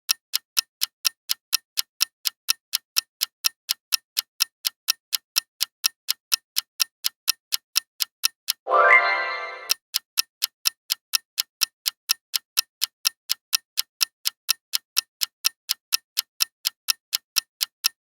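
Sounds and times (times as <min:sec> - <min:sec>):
clock ticking: 0:00.1 - 0:18.0.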